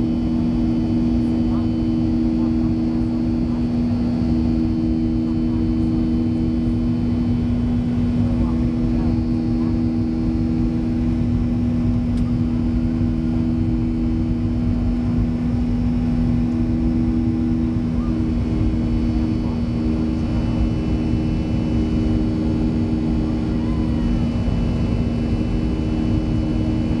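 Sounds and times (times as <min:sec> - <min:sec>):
airplane cabin engine drone: 0:00.0 - 0:27.0.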